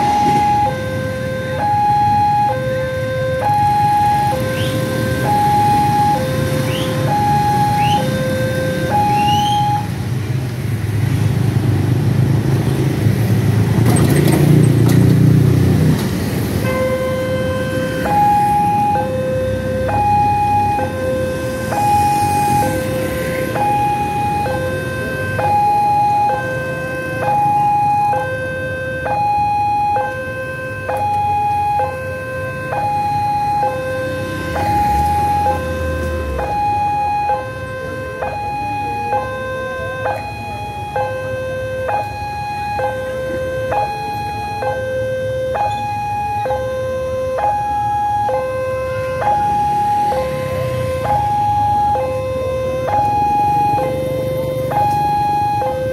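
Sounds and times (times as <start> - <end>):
low traffic rumble: 0.0 - 55.9.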